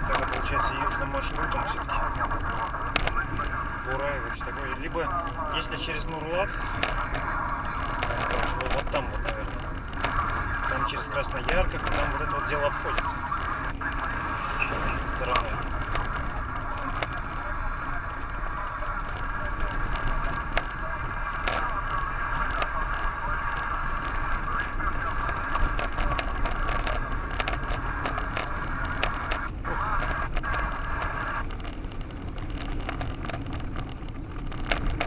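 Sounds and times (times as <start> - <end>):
small clicks and crackles: 0.0 - 35.0
tyre road rumble: 0.0 - 35.0.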